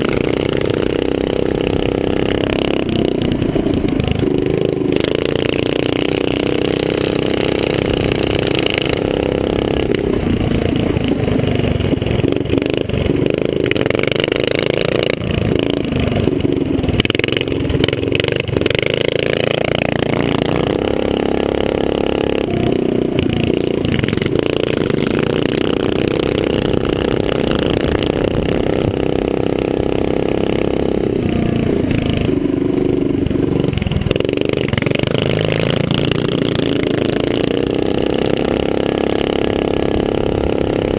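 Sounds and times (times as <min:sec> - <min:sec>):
mini-bike engine racing: 0:00.0 - 0:40.9.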